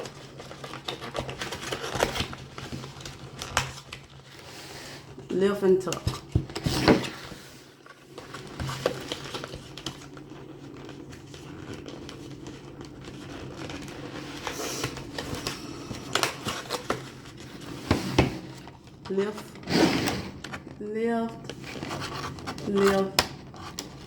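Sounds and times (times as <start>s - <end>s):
cardboard rustling and creasing: 0.0s - 24.0s.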